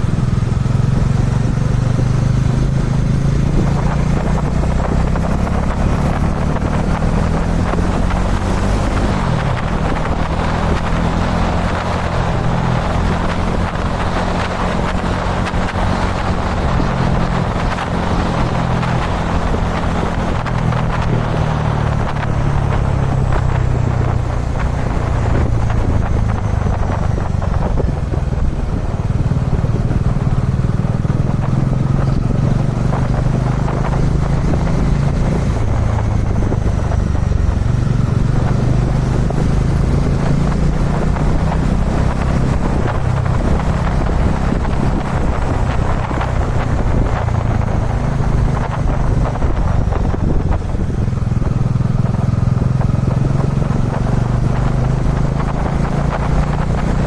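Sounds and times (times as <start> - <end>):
motorcycle engine running: 0.0 - 57.0
wind and road rush: 0.0 - 57.0.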